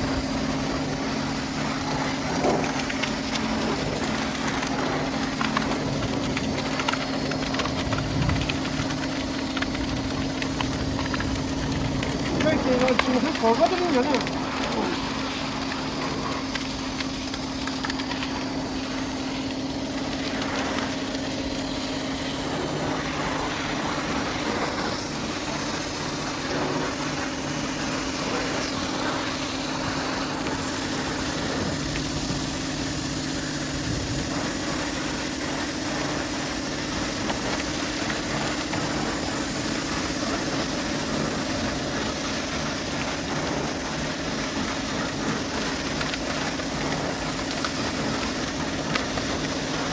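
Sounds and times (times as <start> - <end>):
pressure washer motor drone: 0.0 - 49.9
water spray hissing: 0.0 - 49.9.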